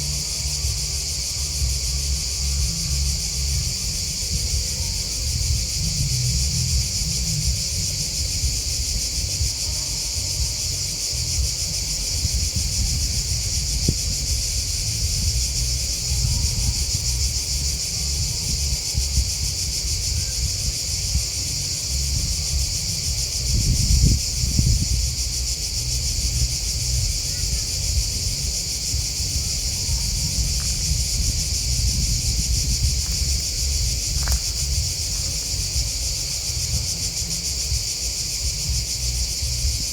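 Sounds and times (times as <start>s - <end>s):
low rumble: 0.0s - 9.5s, 10.6s - 39.9s
grasshoppers and crickets chirping: 0.0s - 39.9s.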